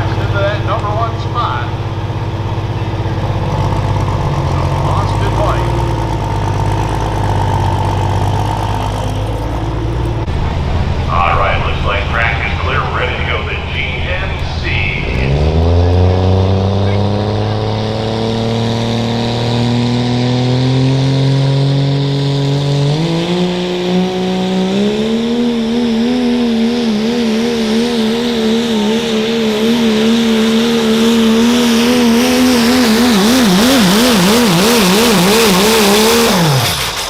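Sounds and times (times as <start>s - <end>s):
pickup truck engine under load: 0.0s - 37.0s.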